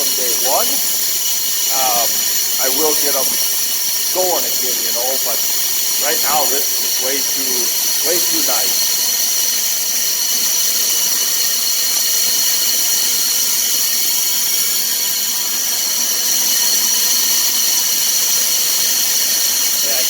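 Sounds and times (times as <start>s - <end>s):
grain vacuum rushing and whining: 0.0s - 12.1s, 12.7s - 20.0s.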